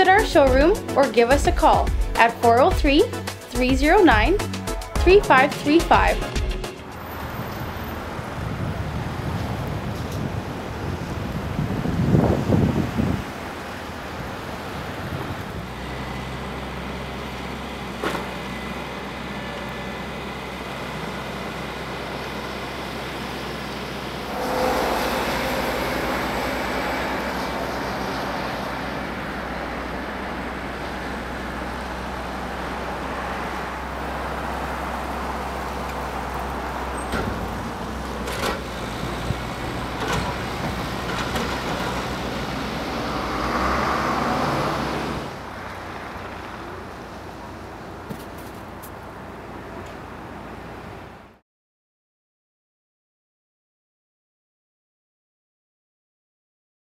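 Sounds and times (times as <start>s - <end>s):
heavy machinery diesel engines: 0.0s - 51.4s.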